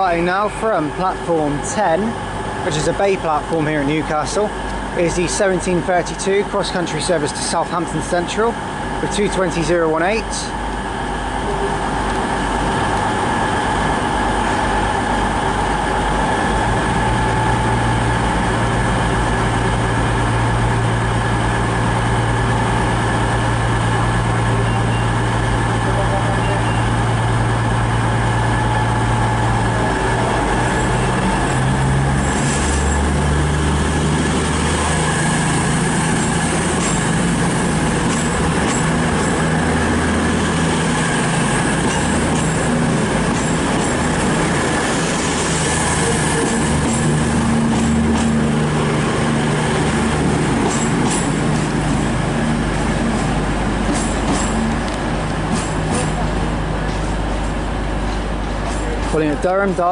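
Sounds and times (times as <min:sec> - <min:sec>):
train diesel engines running: 0:00.0 - 0:59.9.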